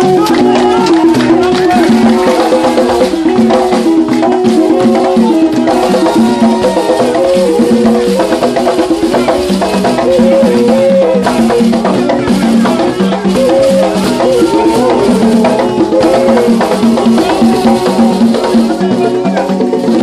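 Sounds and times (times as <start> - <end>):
man singing through loudspeaker: 0.0 - 20.0.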